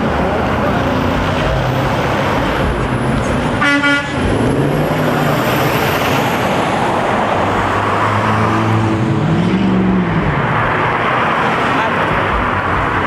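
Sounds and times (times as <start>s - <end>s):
car engine accelerating: 0.0s - 13.0s
cars driving past: 0.0s - 13.0s
road noise: 0.0s - 13.0s.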